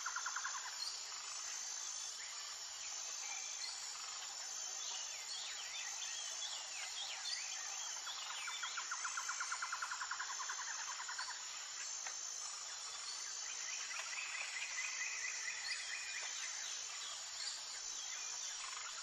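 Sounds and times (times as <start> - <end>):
insect chirring: 0.0 - 19.0.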